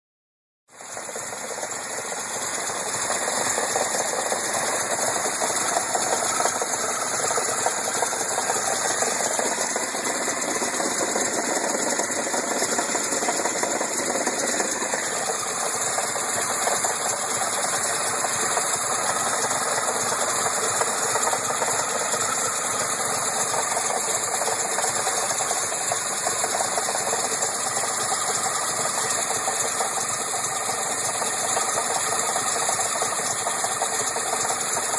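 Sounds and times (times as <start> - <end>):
engine running with mechanical clatter: 0.7 - 34.9.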